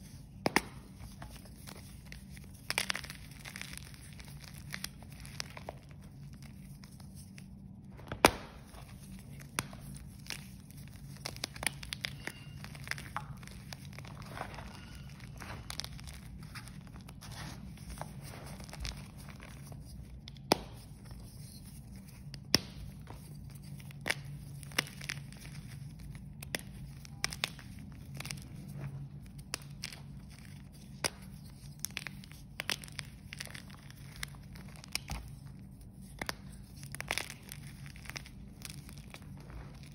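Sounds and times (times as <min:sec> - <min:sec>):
low steady hum: 0:00.0 - 0:39.9
chalk pieces snapping: 0:00.1 - 0:16.8, 0:17.8 - 0:39.9.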